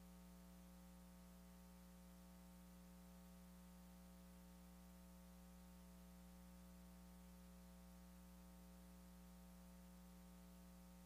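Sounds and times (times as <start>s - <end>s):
faint steady hum with hiss: 0.0s - 11.0s.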